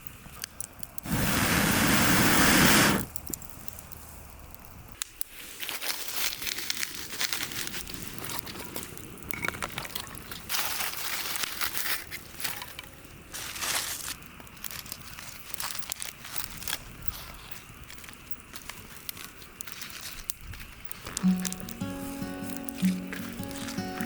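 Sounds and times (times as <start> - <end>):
crinkling and rustling: 3.2 - 24.0.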